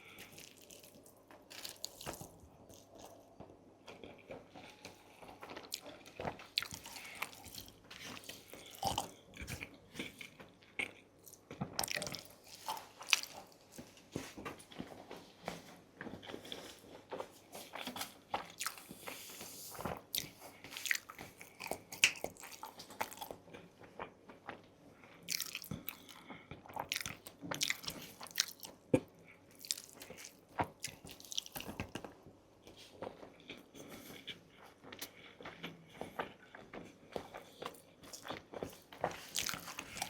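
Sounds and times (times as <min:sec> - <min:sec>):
crunching and chewing: 0:00.0 - 0:15.0, 0:16.0 - 0:40.0.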